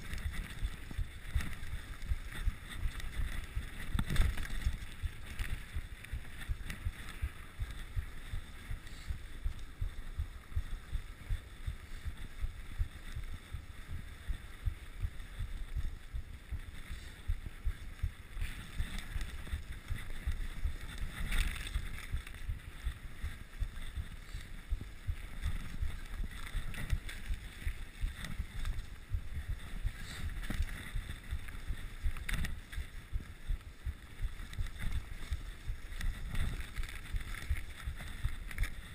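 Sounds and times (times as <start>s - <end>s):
tyres on snow: 0.0s - 38.9s
wind rumble on microphone: 0.0s - 38.9s.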